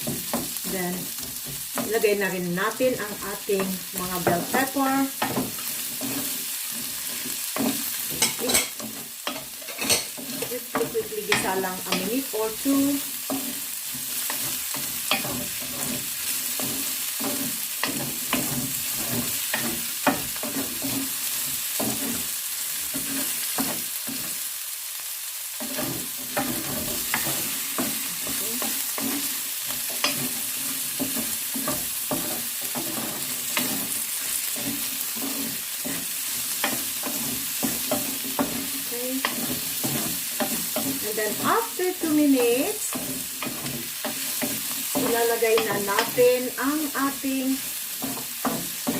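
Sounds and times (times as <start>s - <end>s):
spatula scraping a pan: 0.0s - 24.5s, 25.4s - 48.9s
vegetables sizzling in hot oil: 0.0s - 48.9s.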